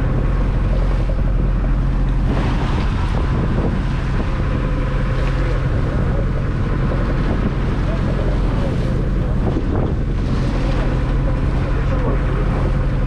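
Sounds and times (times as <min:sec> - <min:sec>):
boat engine humming: 0:00.0 - 0:13.0
wind buffeting microphone: 0:00.0 - 0:13.0.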